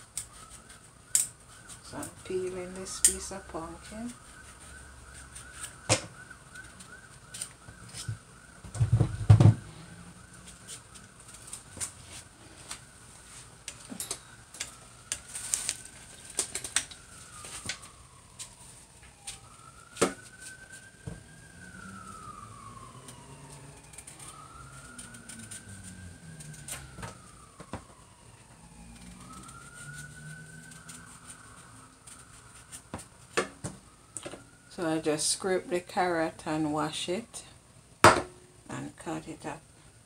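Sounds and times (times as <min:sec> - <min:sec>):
siren wailing: 0:00.0 - 0:37.7.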